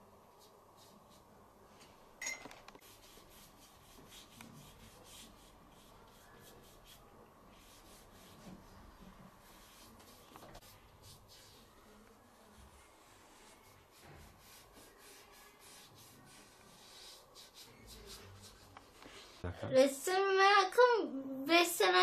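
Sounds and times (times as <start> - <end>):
paintbrush scratching on canvas: 0.3 - 1.3, 2.8 - 19.4.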